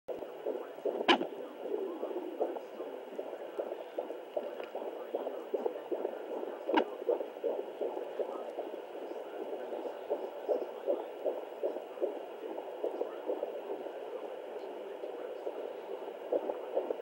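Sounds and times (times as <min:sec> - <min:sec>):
fetal heartbeat whooshing pulses: 0:00.1 - 0:17.0.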